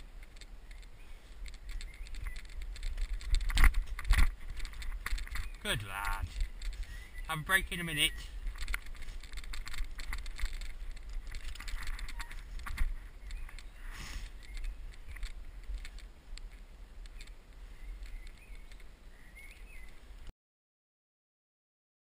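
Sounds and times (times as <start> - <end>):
bike rattling and clicking: 0.0 - 20.0.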